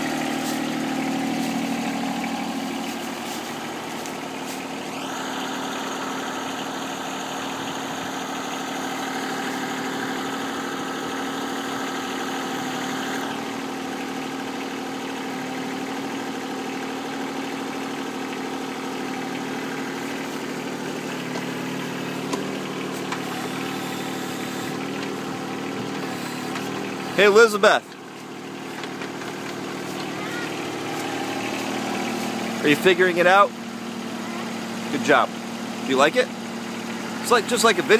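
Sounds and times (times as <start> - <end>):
backhoe engine idling: 0.0 - 37.9.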